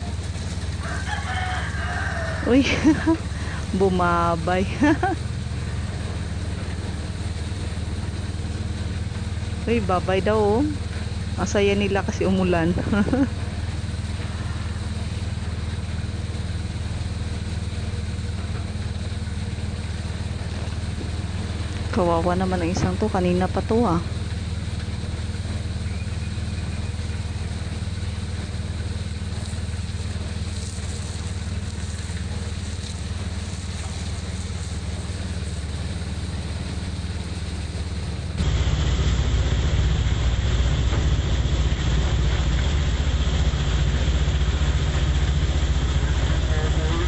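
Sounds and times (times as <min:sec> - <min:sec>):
motorcycle engine running: 0:00.0 - 0:47.0
rain: 0:00.0 - 0:47.0
road noise: 0:00.0 - 0:47.0.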